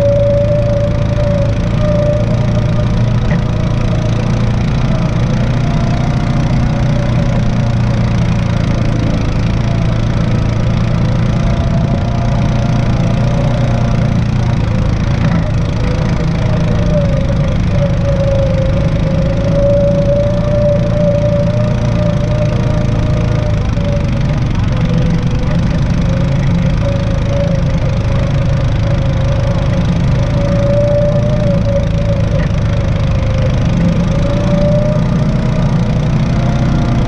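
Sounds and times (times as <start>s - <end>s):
off-road vehicle engine droning: 0.0s - 37.0s.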